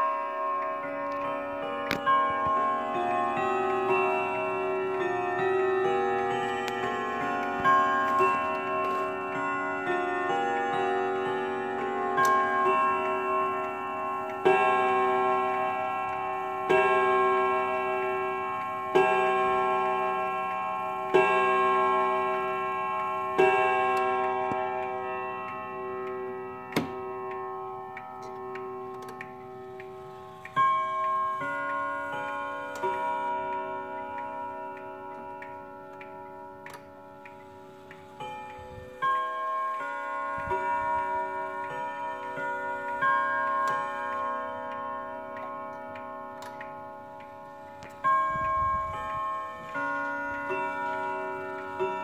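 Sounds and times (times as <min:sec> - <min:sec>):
clock hammer striking chime rod: 0:00.0 - 0:52.0.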